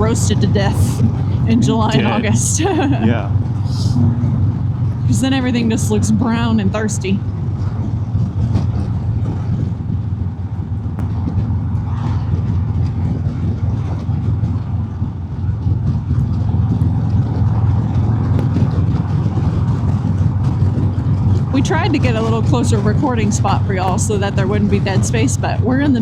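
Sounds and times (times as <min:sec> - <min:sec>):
motorcycle engine droning: 0:00.0 - 0:26.0
road noise: 0:00.0 - 0:26.0
wind noise: 0:00.0 - 0:26.0.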